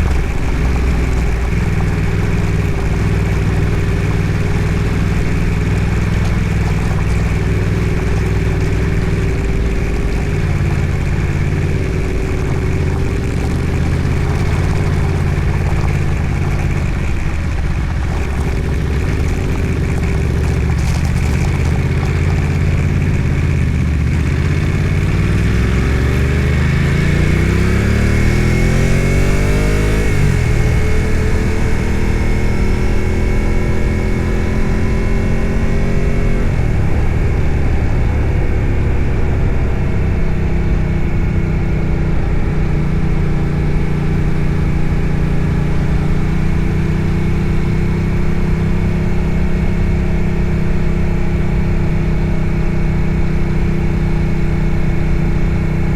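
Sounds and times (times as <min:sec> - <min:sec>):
vehicle engine running under load: 0:00.0 - 0:55.9.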